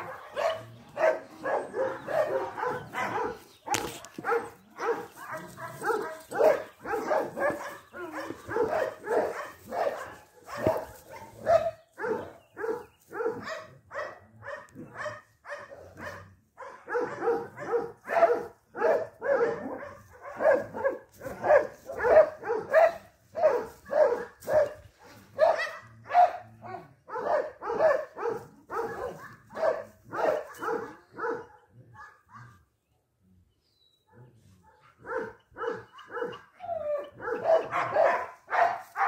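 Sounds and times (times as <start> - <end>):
dog barking: 0.0 - 32.6, 34.1 - 39.0.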